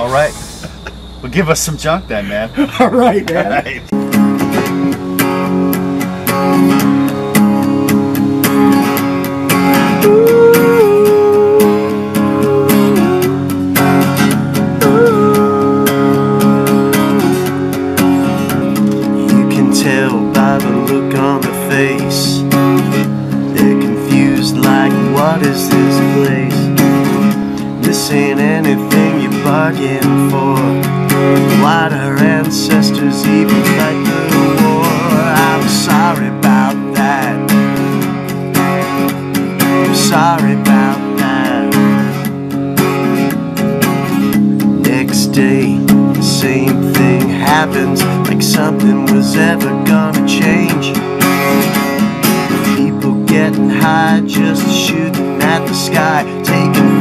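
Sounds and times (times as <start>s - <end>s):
acoustic guitar strummed and picked: 2.0s - 57.0s.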